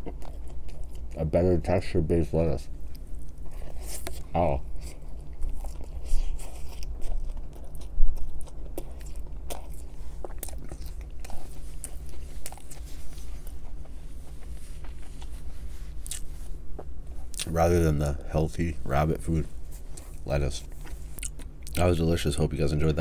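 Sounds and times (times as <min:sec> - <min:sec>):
chewing food: 0:00.0 - 0:01.9, 0:02.6 - 0:17.6, 0:19.8 - 0:21.9.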